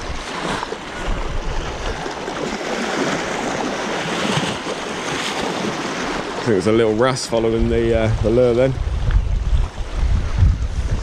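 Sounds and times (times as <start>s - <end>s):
wind rumble on microphone: 0.0s - 4.5s, 5.1s - 11.0s
waves washing against rocks: 0.0s - 11.0s.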